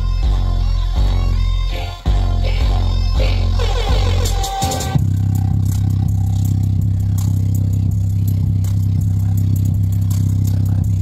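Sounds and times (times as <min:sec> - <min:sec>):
loudspeaker playing deep bass note: 0:02.1 - 0:11.0.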